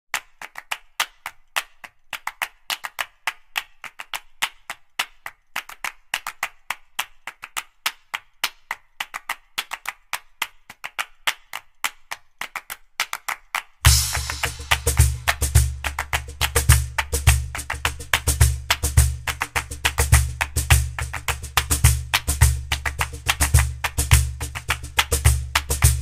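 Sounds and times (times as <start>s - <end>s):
percussion clicks and claps: 0.1s - 26.0s.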